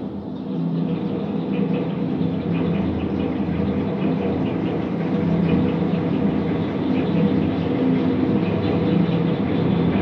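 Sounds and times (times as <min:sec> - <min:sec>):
elevated train rumble through window: 0:00.0 - 0:10.0.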